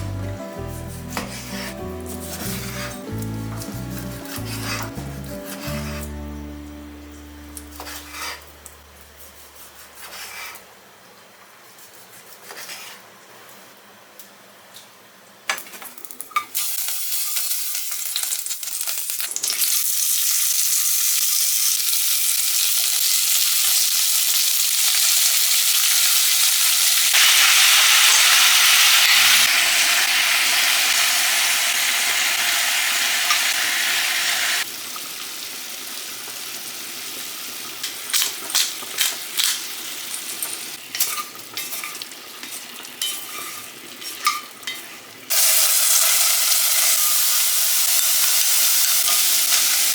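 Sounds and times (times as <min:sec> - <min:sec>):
food sizzling in a pan: 0:00.6 - 0:06.5, 0:07.4 - 0:08.6, 0:16.5 - 0:49.9.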